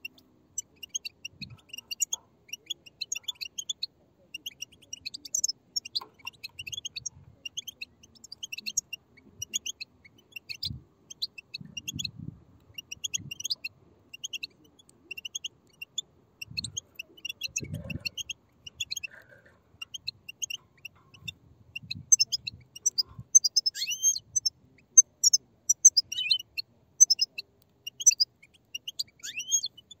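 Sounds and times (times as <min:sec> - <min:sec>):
bird chicks begging chirps: 0:00.0 - 0:30.0.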